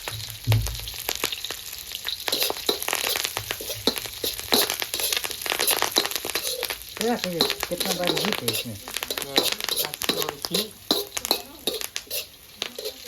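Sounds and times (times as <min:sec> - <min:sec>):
crackles and pops: 0:00.0 - 0:13.0
food sizzling in hot oil: 0:00.0 - 0:13.0.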